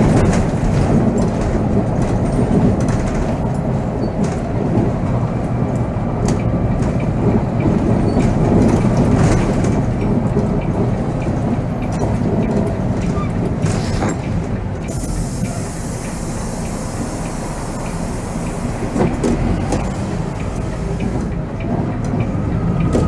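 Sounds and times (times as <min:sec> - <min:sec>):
diesel coach engine rumble: 0:00.0 - 0:23.0.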